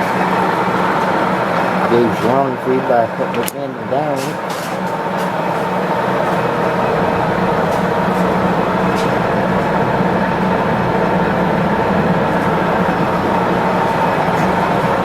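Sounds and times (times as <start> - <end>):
lathe hum and gear whine: 0.0 - 15.0.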